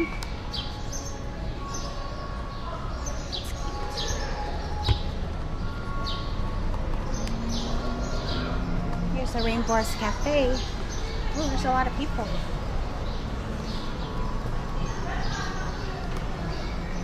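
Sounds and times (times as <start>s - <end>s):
murmur of people: 0.0s - 17.0s.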